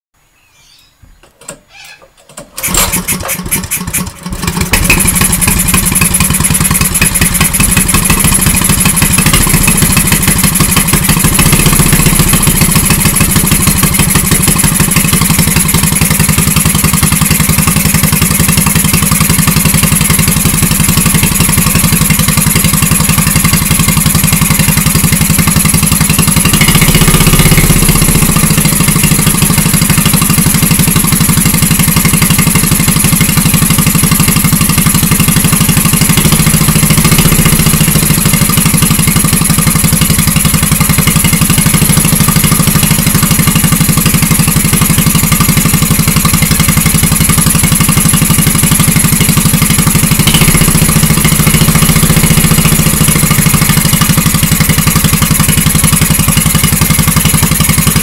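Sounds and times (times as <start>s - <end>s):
petrol engine running steadily: 2.6s - 58.0s.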